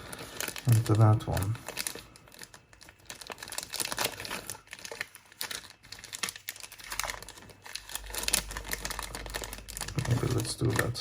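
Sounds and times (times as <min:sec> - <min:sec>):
crinkling rustles: 0:00.0 - 0:11.0.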